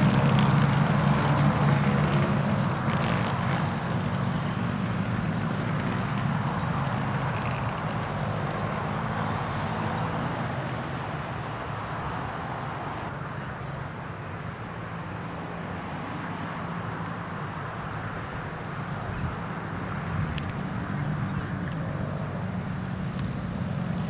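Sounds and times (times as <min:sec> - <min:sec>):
kart engines droning: 0:00.0 - 0:24.0.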